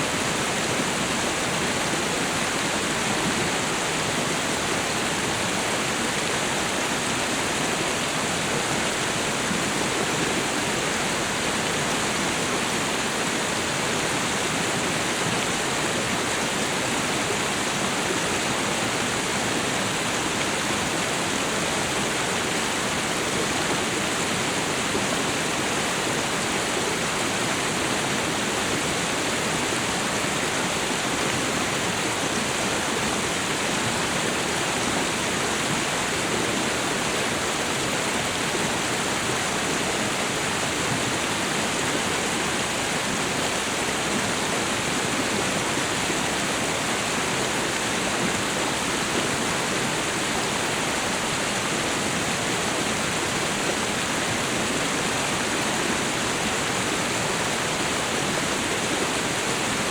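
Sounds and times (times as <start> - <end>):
waterfall and river rushing: 0.0 - 59.9.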